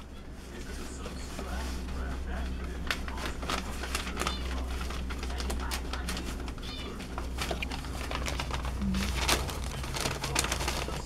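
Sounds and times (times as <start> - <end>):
rustling and scratching on newspaper: 0.0 - 11.0.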